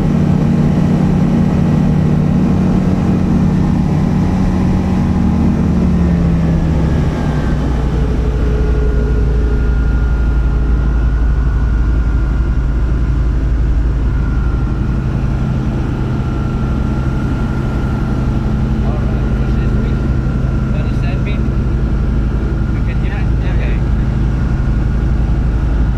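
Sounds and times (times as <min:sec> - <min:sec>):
light aeroplane piston engine running: 0:00.0 - 0:25.9.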